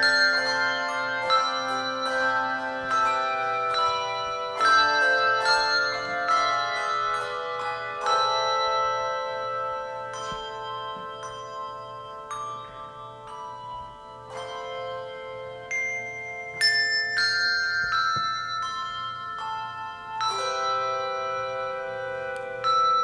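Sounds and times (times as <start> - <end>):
handbell choir melody: 0.0 - 23.0.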